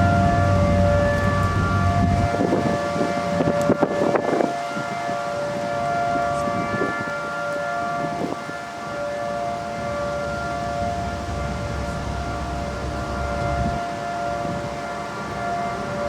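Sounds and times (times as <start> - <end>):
outdoor warning siren steady tone: 0.0 - 16.0.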